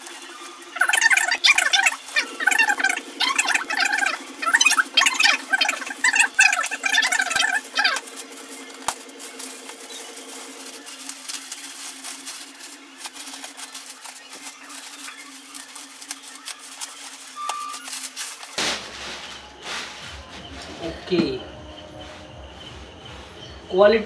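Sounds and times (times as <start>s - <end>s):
plastic wrapping crinkling: 0.0s - 21.3s.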